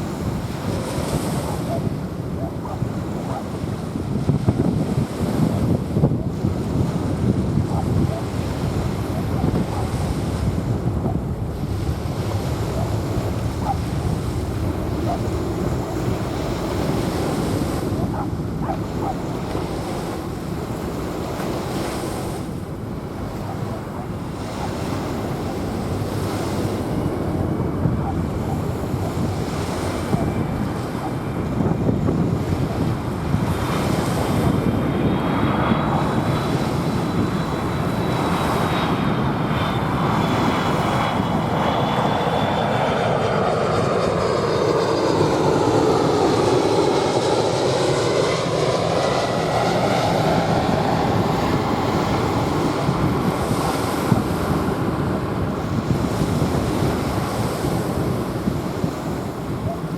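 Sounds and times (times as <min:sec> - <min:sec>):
waves washing on sand: 0:00.0 - 0:43.5, 0:44.6 - 0:59.9
high turbine whine: 0:00.0 - 0:59.9
jet airliner passing overhead: 0:00.0 - 0:59.9.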